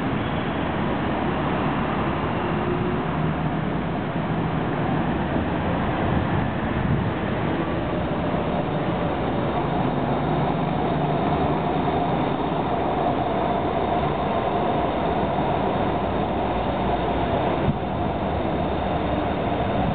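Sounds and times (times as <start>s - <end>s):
electric train running past: 0.0s - 19.9s.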